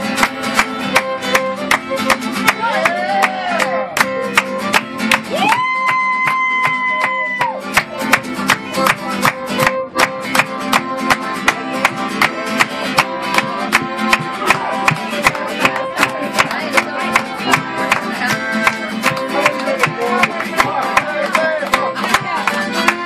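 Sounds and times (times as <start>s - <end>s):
accordion: 0.0s - 5.4s, 6.3s - 23.0s
bowed fiddle: 0.0s - 5.4s, 7.4s - 23.0s
strummed acoustic guitar: 0.0s - 23.0s.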